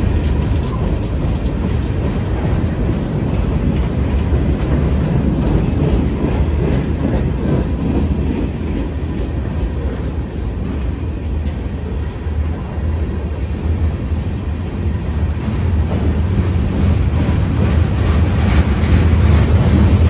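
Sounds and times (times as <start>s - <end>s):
clicking of train trucks: 0.0s - 20.0s
train wheels rumbling on rail: 0.0s - 20.0s.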